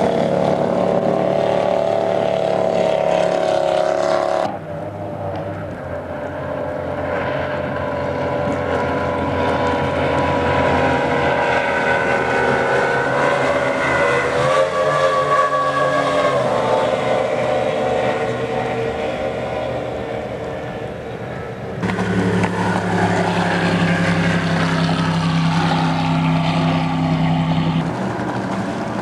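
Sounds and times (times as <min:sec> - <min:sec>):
powerboat engine drone: 0:00.0 - 0:29.0.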